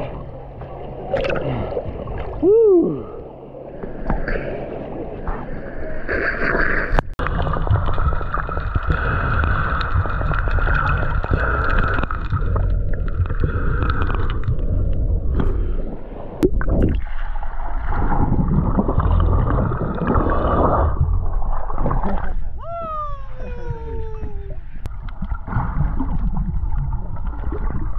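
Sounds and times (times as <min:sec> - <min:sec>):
churning gurgling water: 0:00.0 - 0:27.9.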